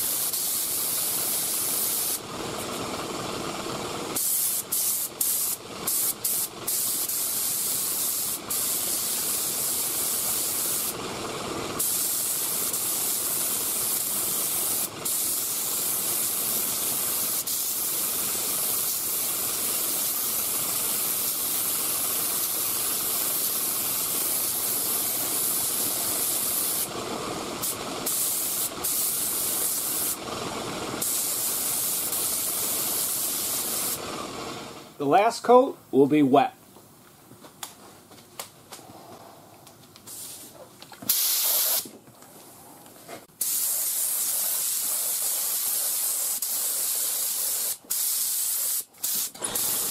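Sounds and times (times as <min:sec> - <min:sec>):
spray gun hissing: 0:00.0 - 0:34.8, 0:41.1 - 0:41.9, 0:43.4 - 0:49.9.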